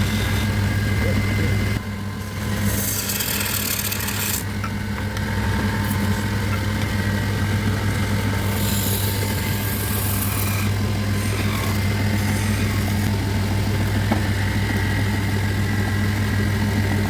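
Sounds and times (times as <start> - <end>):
power tool humming: 0.0 - 17.0.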